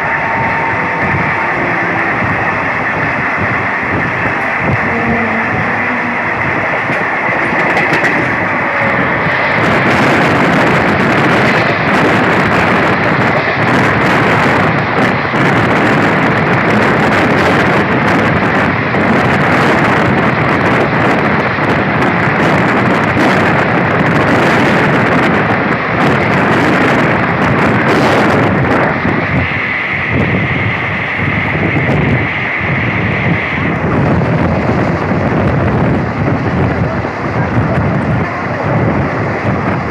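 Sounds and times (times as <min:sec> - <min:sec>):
high whine: 0:00.0 - 0:39.9
passenger train running at speed: 0:00.0 - 0:39.9.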